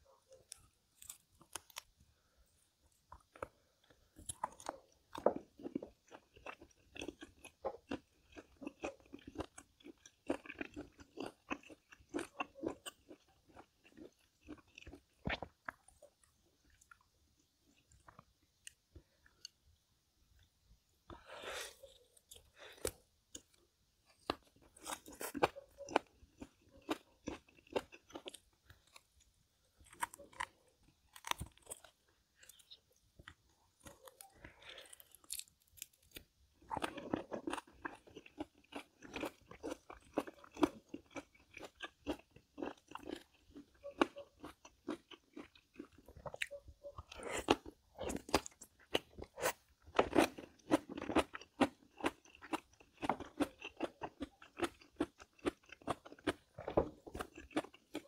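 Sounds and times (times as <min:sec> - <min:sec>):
person chewing crunchy food: 0:00.0 - 0:19.8, 0:20.4 - 0:58.0.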